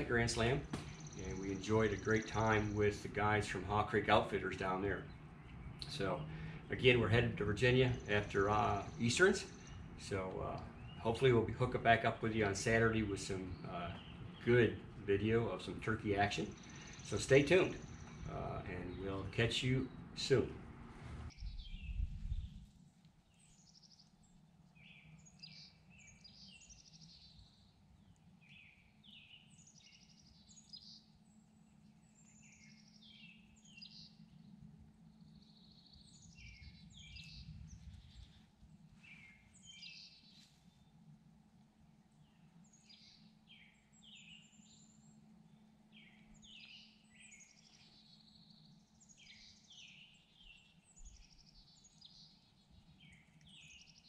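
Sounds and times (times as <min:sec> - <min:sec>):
low steady hum: 0:00.0 - 0:54.0
songbirds chirping and trilling: 0:00.0 - 0:54.0.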